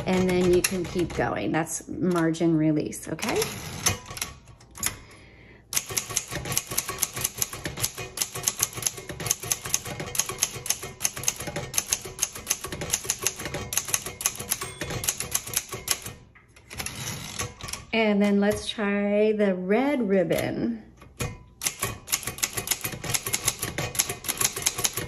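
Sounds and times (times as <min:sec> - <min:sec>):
manual typewriter typing: 0:00.0 - 0:05.0, 0:05.7 - 0:18.7, 0:21.6 - 0:25.0.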